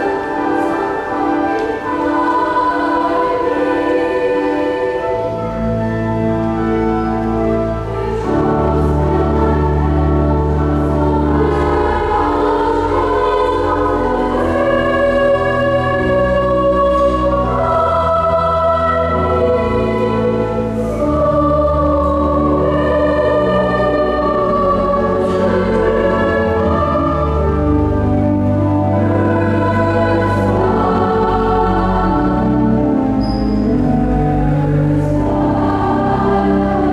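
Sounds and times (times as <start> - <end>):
choir singing: 0.0 - 36.9
pipe organ: 0.0 - 36.9.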